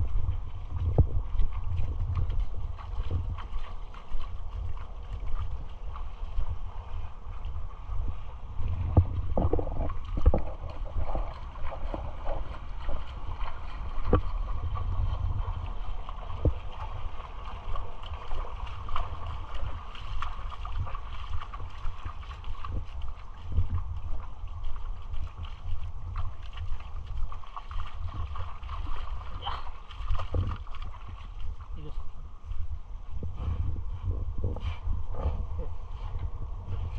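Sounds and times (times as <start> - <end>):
water lapping at rocky shore: 0.0 - 32.6
wind buffeting microphone: 0.0 - 36.9.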